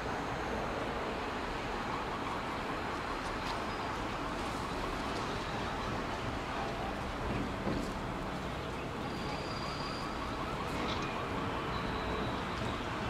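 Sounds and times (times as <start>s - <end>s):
distant traffic hum: 0.0s - 13.0s.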